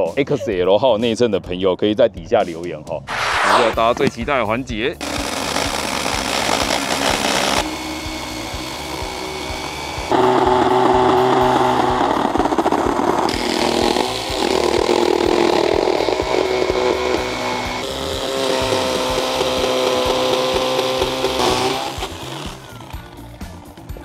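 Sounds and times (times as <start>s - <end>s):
background music: 0.0s - 24.0s
power saw cutting helmet shell: 3.1s - 4.2s, 5.0s - 23.3s.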